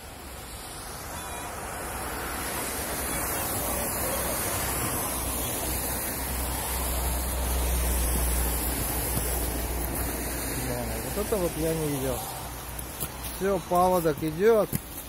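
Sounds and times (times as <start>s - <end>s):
water rushing in a ditch: 0.0s - 15.0s.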